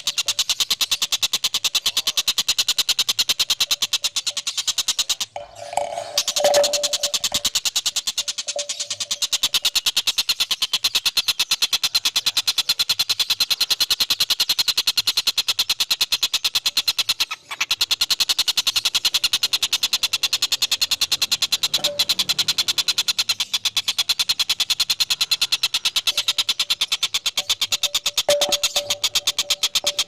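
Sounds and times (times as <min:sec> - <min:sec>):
bird trilling: 0:00.0 - 0:30.0.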